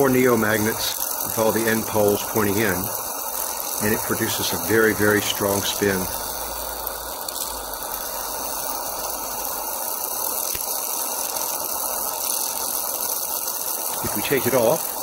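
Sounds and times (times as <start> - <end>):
electric arc noise: 0.0 - 15.0
low electrical hum: 0.0 - 15.0.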